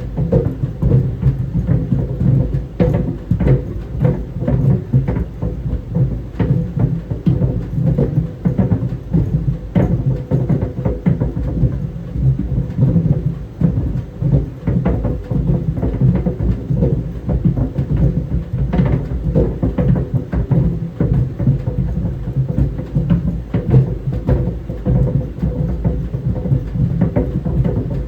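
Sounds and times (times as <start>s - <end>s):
clothes dryer rumble and hum: 0.0s - 28.0s.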